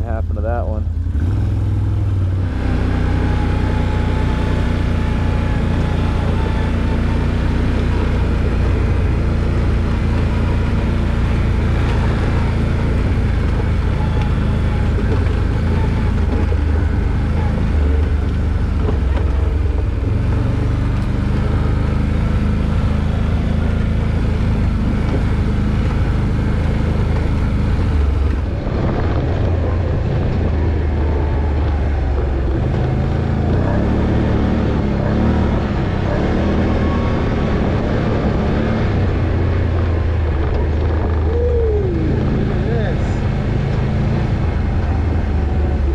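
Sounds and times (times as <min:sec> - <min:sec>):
off-road vehicle engine running: 0:00.0 - 0:45.9.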